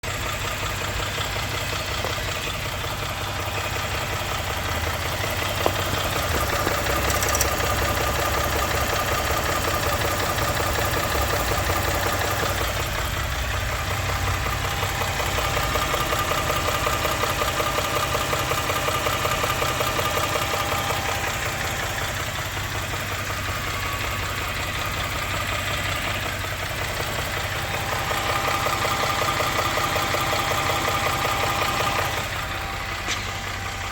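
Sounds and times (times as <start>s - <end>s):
engine knocking: 0.0s - 33.9s.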